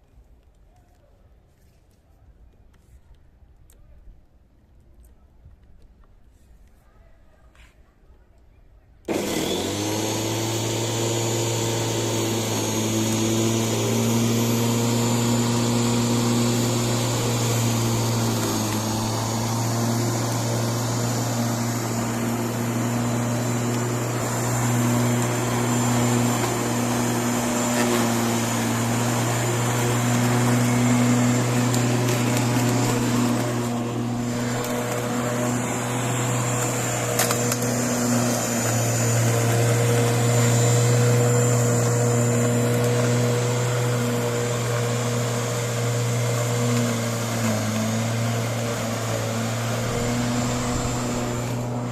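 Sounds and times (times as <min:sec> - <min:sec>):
electric motor whine: 0:09.1 - 0:51.9.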